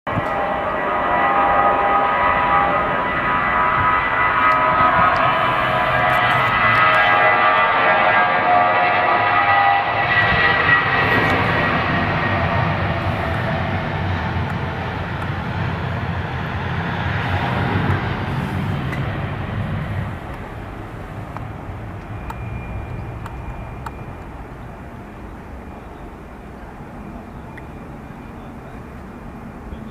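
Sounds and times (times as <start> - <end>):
jet engine whine: 0.1 - 29.9
jet engines roaring: 0.1 - 29.9.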